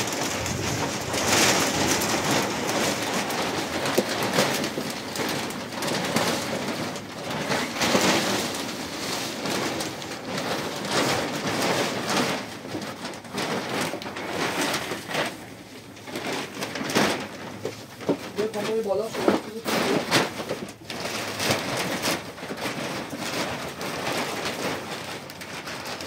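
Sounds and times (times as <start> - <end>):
plastic sheet rustling and crinkling: 0.0 - 26.0.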